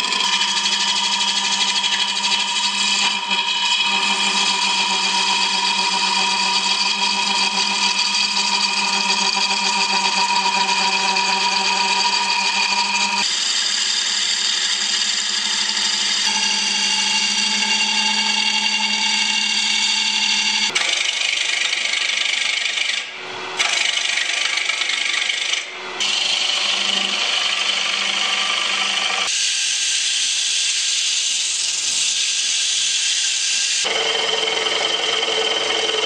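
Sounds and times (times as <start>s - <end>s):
lathe hum: 0.0s - 29.3s, 33.8s - 36.0s
lathe tool scraping wood: 0.0s - 29.4s, 33.8s - 36.0s.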